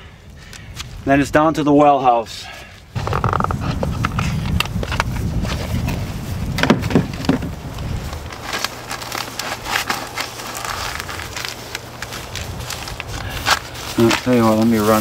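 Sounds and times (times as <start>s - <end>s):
steady low hum: 2.4s - 15.0s.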